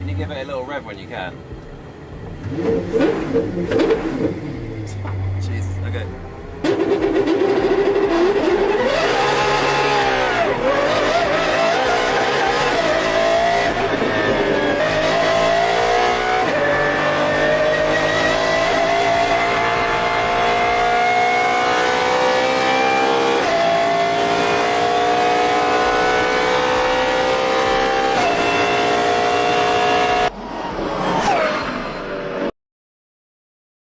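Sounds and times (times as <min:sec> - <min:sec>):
car engine revving and accelerating: 0:00.0 - 0:32.5.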